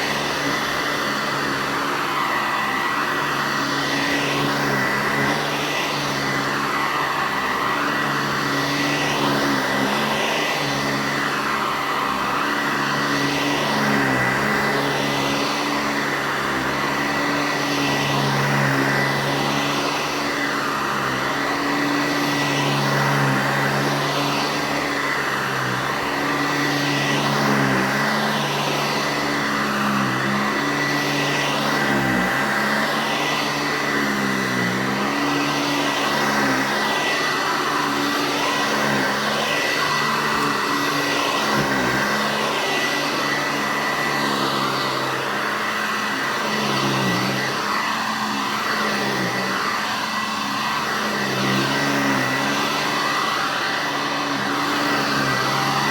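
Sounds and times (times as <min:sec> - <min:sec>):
vacuum cleaner whine and hum: 0:00.0 - 0:55.9.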